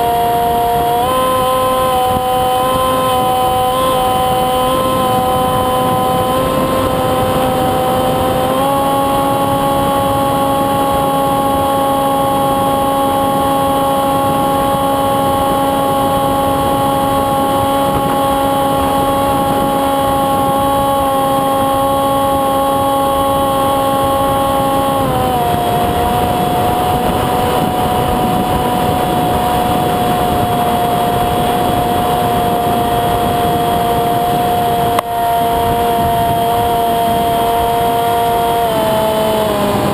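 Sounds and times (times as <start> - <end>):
electric motor and propeller whining: 0.0 - 39.9
steady rushing noise: 0.0 - 39.9.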